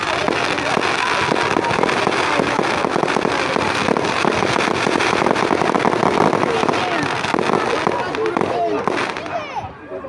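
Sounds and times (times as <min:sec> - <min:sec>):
fireworks crackling and banging: 0:00.0 - 0:09.6.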